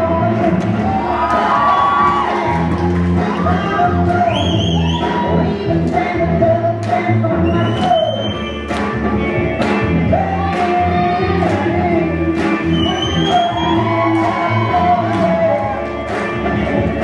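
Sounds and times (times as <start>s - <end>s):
pop song with sung vocals: 0.0s - 17.0s.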